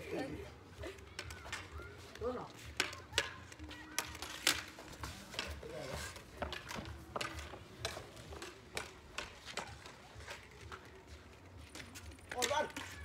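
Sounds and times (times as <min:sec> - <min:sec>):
plastic sticks hitting ball: 0:01.0 - 0:13.0
sticks scraping court: 0:01.2 - 0:13.0.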